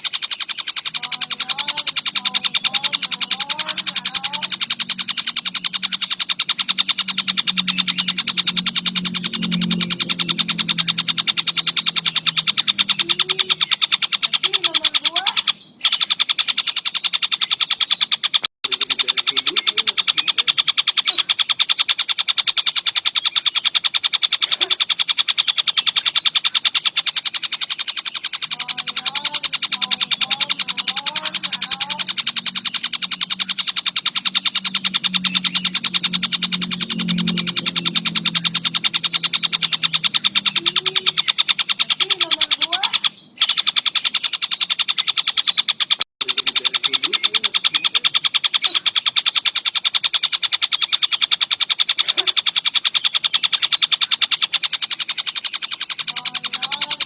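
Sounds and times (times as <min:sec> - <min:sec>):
kingfisher chattering: 0:00.0 - 0:57.0.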